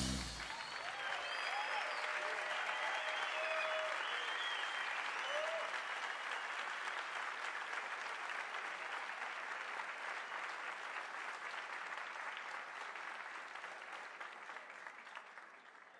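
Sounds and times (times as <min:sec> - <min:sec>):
audience applauding: 0:00.0 - 0:15.9.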